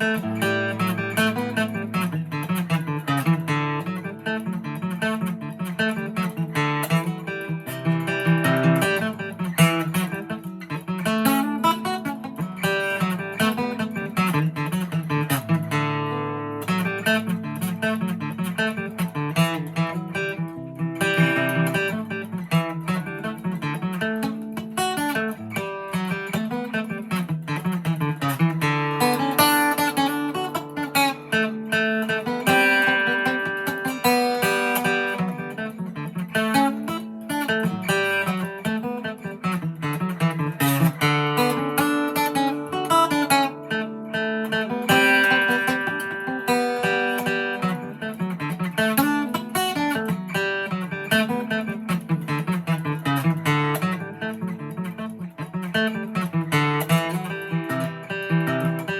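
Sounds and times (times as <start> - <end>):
acoustic guitar fiddle tune: 0.0 - 58.9.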